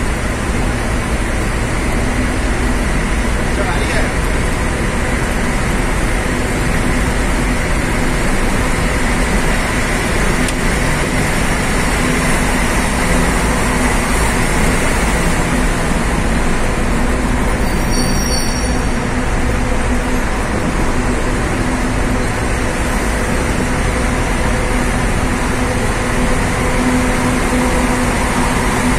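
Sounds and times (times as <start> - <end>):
truck engine and tyre rumble: 0.0 - 28.9.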